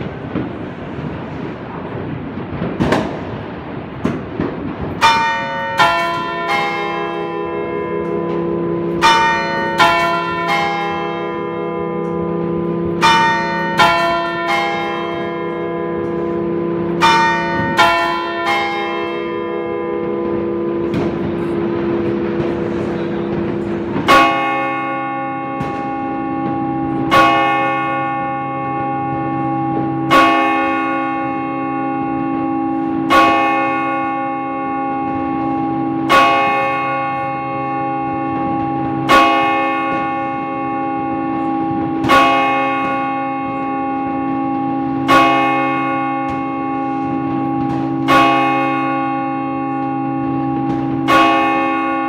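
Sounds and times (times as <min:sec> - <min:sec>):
large church bells ringing: 0:00.0 - 0:52.0
deep bell single strokes: 0:05.0 - 0:52.0.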